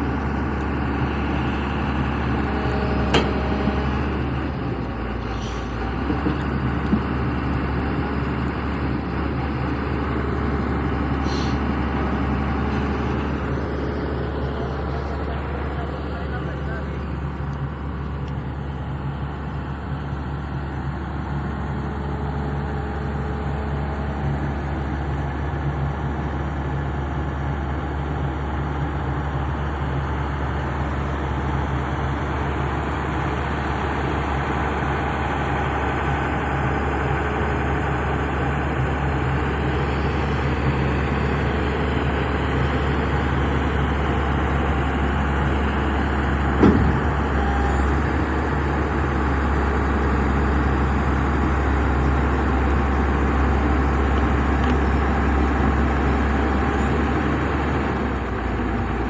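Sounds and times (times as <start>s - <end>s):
excavator diesel engine drone: 0.0s - 59.0s.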